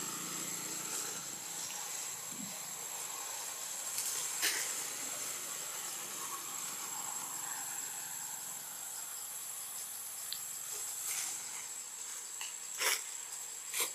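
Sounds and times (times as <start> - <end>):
high-pitched insect drone: 0.0 - 13.9.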